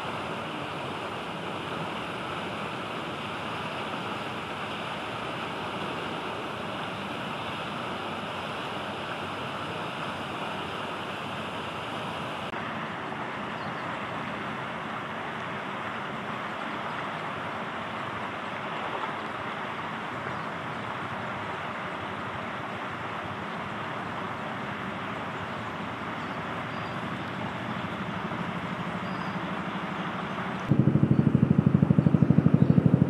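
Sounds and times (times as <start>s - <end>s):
rushing outdoor background noise: 0.0s - 33.0s.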